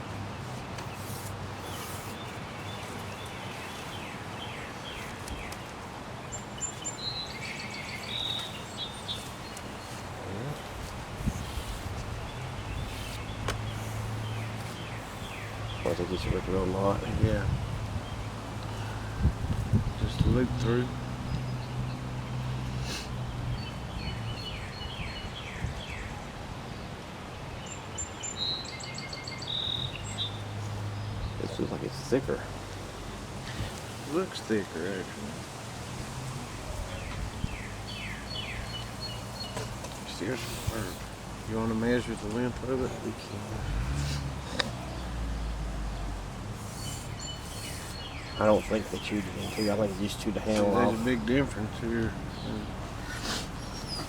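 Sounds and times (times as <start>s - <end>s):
outdoor background noise: 0.0s - 54.0s
songbirds singing: 0.0s - 54.0s
bird chirping: 0.8s - 19.0s, 20.0s - 26.2s, 27.6s - 32.3s, 36.6s - 54.0s.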